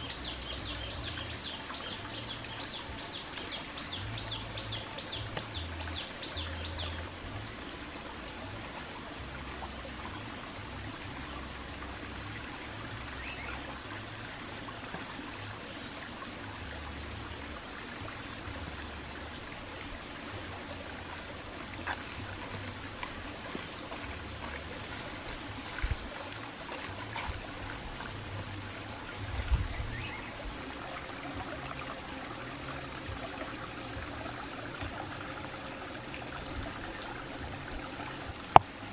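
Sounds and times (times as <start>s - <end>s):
high-pitched whine: 0.0s - 38.9s
trickling stream: 0.0s - 38.9s.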